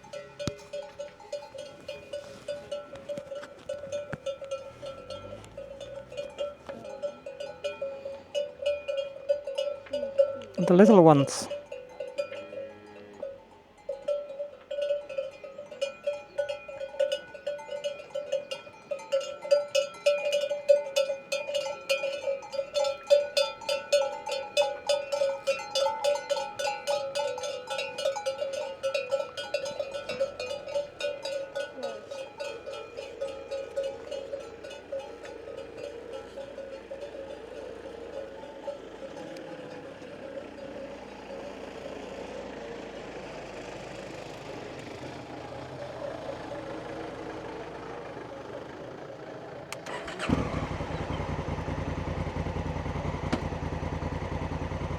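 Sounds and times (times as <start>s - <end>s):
livestock bells clanking: 0.0s - 54.9s.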